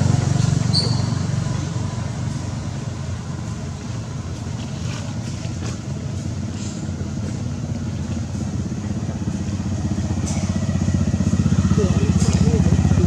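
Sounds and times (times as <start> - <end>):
engine running with low rumble: 0.0 - 13.0.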